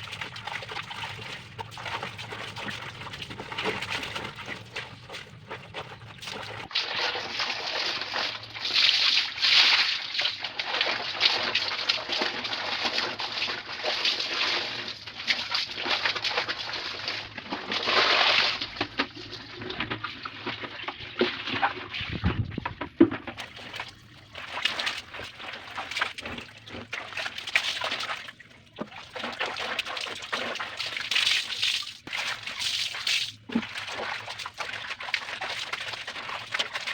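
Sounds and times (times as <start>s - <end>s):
water sloshing and splashing: 0.0s - 36.9s.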